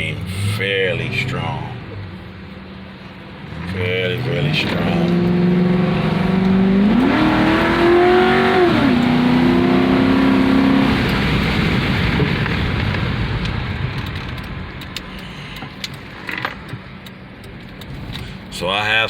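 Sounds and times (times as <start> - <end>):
car engine accelerating hard: 0.0 - 18.6
road and wind noise: 0.0 - 19.0.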